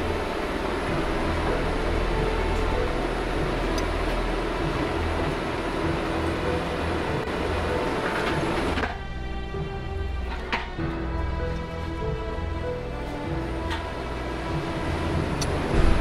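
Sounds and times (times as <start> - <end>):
excavator engine and hydraulics: 0.0 - 16.0
music: 0.0 - 16.0.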